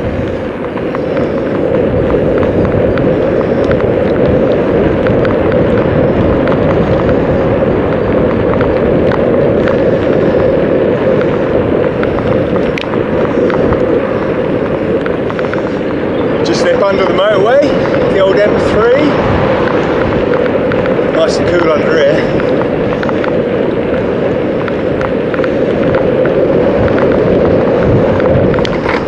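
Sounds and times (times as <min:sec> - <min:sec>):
small clicks and ticks: 0:00.0 - 0:29.0
wind rumbling on microphone: 0:00.0 - 0:29.0.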